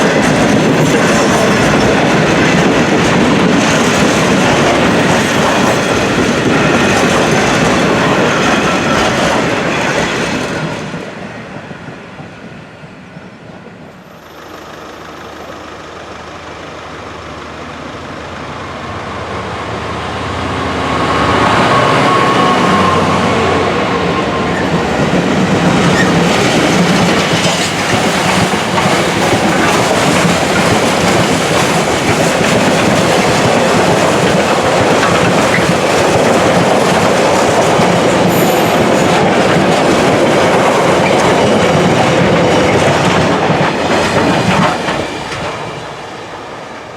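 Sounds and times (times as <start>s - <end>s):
train running past: 0.0s - 46.9s.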